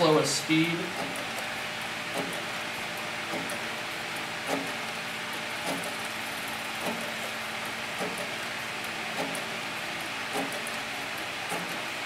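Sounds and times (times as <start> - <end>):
sewing machine motor hum: 0.0 - 12.0.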